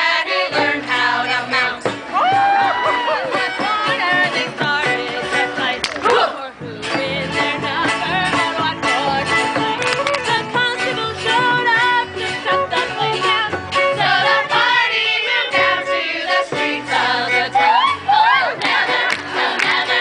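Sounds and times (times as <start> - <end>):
instrumental accompaniment: 0.0 - 20.0.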